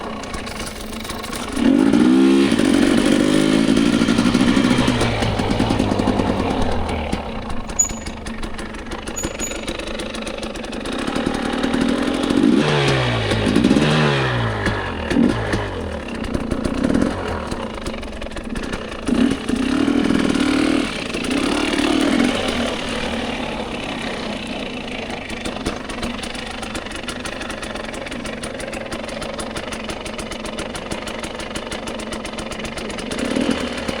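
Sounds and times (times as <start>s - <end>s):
dirt bike engine idling: 0.0s - 34.0s.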